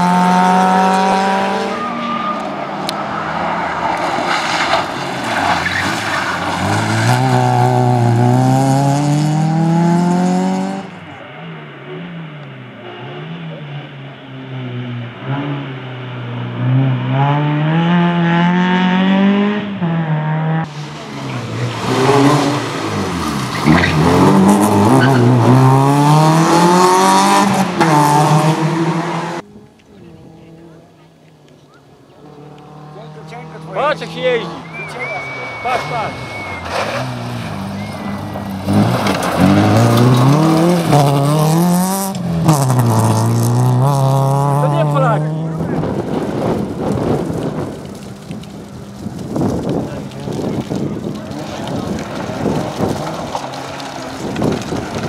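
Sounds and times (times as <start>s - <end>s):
car engine revving: 0.0s - 55.0s
rally car engine at full throttle: 0.0s - 55.0s.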